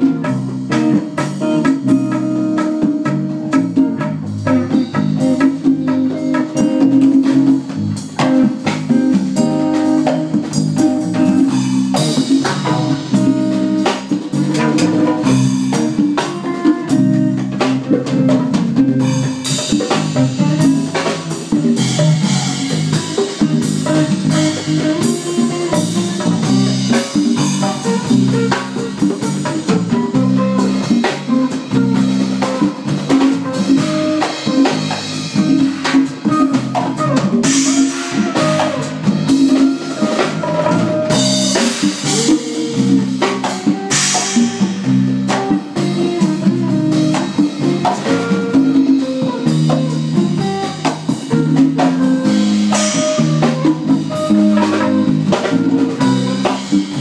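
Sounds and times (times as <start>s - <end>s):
drum kit hits: 0.0s - 57.0s
guitar line: 0.0s - 57.0s.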